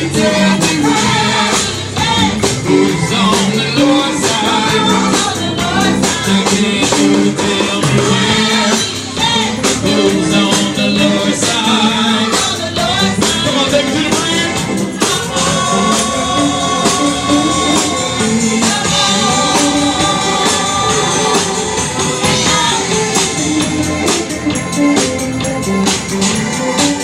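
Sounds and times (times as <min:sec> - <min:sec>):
person singing: 0:00.0 - 0:24.0
band playing: 0:00.0 - 0:27.0.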